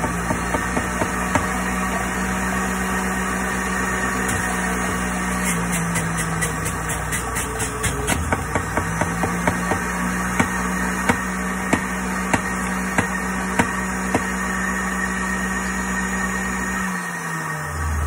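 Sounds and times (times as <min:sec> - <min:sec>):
juicer motor running: 0:00.0 - 0:18.0.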